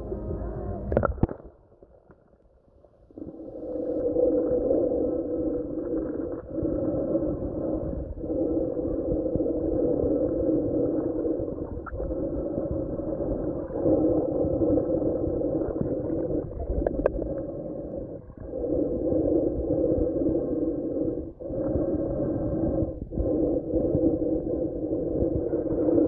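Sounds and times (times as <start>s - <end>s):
muffled underwater river rushing: 0.0s - 26.0s.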